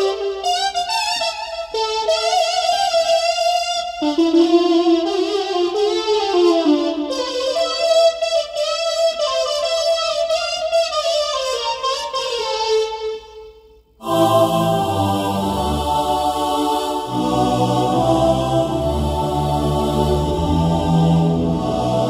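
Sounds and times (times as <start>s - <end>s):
keyboard melody with vibrato: 0.0s - 22.0s.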